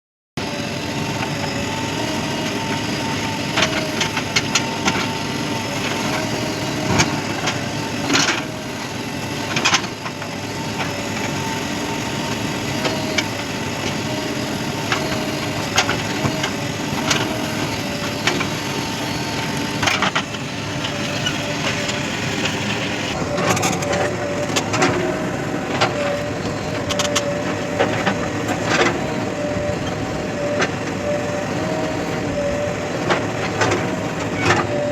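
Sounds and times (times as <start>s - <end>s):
diesel engine with thin whine: 0.4s - 34.9s.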